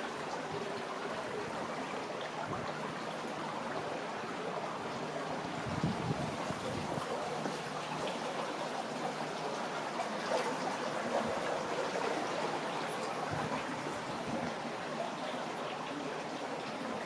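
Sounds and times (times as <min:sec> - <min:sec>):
water flowing in a channel: 0:00.0 - 0:17.0.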